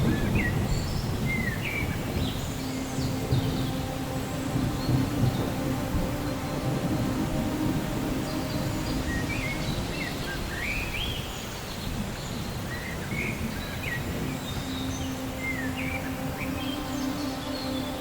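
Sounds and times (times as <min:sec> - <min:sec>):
thunder rumble: 0:00.0 - 0:17.0
birds chirping: 0:00.0 - 0:18.0
rain hiss: 0:00.0 - 0:18.0.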